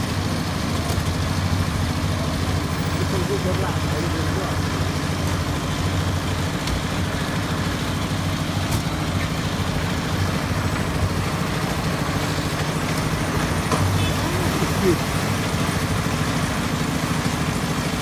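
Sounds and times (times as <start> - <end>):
concrete mixer engine running: 0.0 - 18.0.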